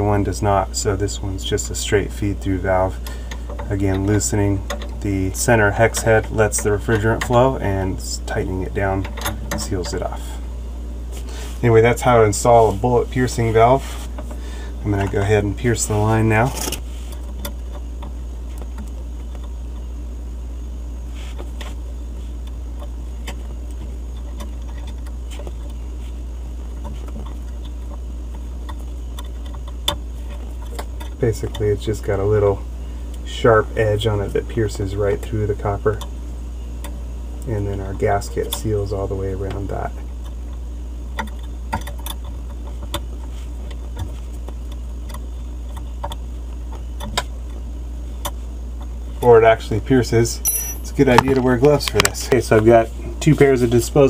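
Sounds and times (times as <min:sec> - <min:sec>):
refrigerator compressor humming: 0:00.0 - 0:54.0.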